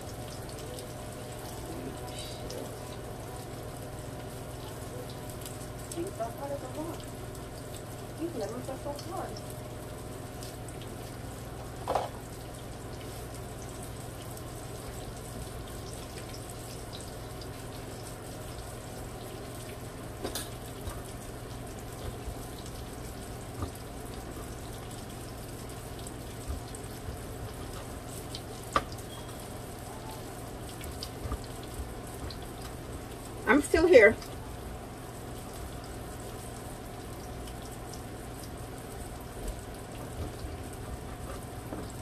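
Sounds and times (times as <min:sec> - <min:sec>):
fish frying in oil: 0:00.0 - 0:42.0.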